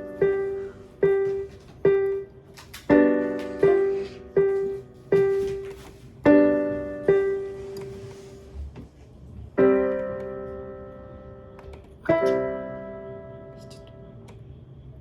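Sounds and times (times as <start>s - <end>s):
electronic keyboard piano melody: 0.0s - 8.7s, 9.4s - 14.5s.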